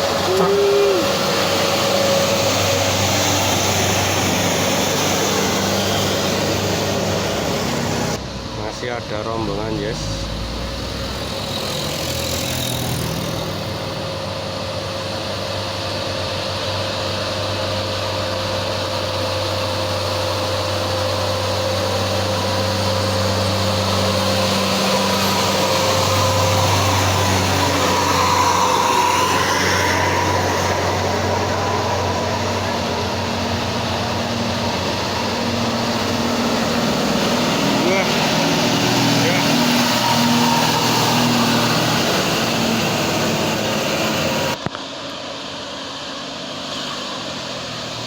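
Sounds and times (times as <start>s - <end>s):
whine: 0.0s - 46.4s
bus diesel engines labouring uphill: 0.0s - 48.0s.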